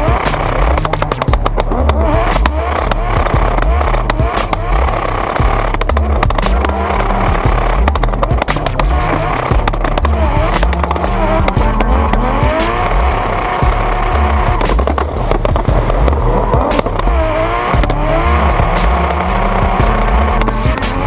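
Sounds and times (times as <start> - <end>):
dubstep music with pulsing bass: 0.0 - 21.0.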